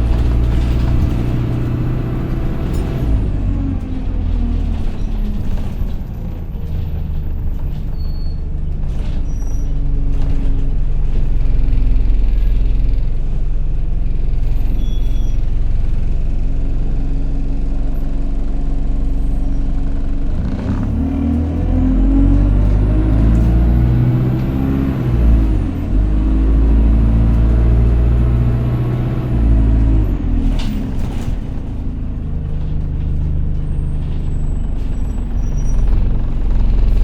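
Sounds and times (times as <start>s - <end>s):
bus engine droning: 0.0s - 37.0s.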